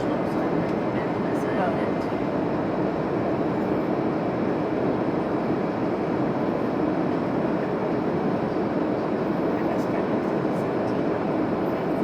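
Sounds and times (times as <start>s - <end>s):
airplane cabin noise: 0.0s - 12.0s.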